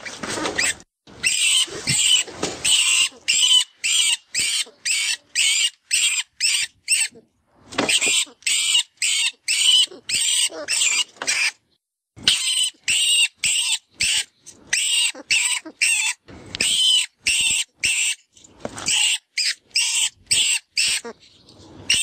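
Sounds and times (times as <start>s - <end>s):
rat distress squeals: 0.0s - 7.2s, 7.8s - 11.6s, 12.2s - 21.2s.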